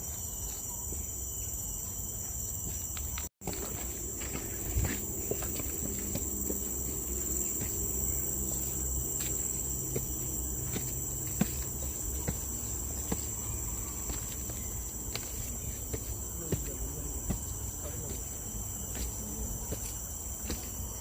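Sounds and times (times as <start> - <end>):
shrill insect chorus: 0.0 - 21.0
soft footsteps walking: 2.2 - 20.9.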